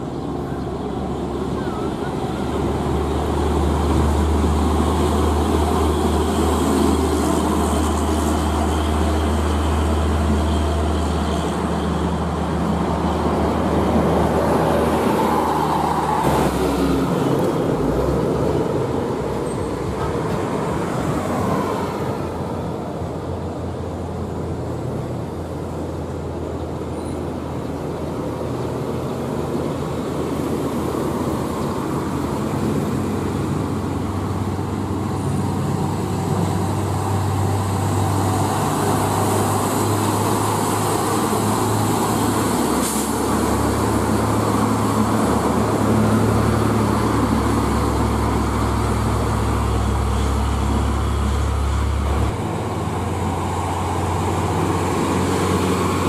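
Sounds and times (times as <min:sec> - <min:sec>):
diesel trucks at low speed: 0:00.0 - 0:56.0
road traffic noise: 0:00.0 - 0:56.0
tractor-trailer passing: 0:00.0 - 0:56.0.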